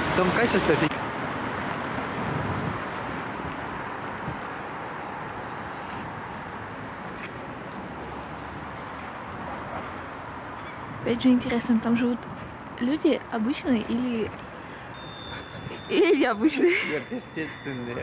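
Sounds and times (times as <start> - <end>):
road traffic hiss: 0.0 - 18.0.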